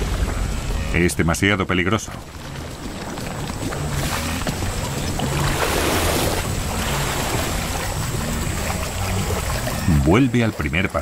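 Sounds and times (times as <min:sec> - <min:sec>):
low steady drone: 0:00.0 - 0:11.0
splashing river water: 0:00.0 - 0:11.0.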